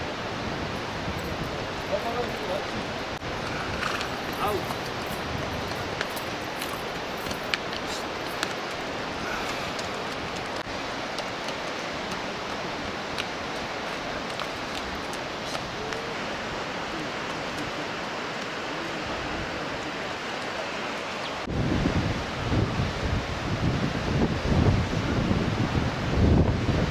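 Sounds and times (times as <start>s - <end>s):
rushing outdoor noise: 0.0s - 26.9s.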